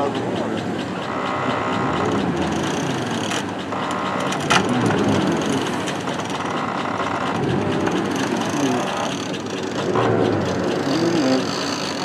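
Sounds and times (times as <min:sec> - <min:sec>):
pickup engine running: 0:00.0 - 0:12.0.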